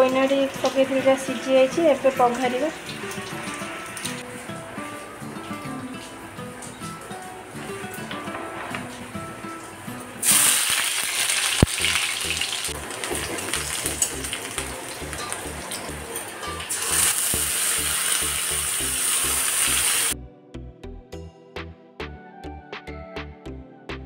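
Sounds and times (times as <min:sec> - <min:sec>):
food sizzling in hot oil: 0:00.0 - 0:08.2, 0:08.8 - 0:20.2.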